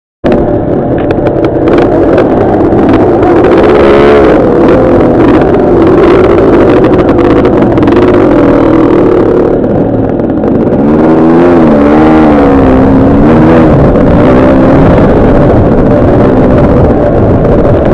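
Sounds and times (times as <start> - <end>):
dirt bike engines revving: 0.3 - 17.9.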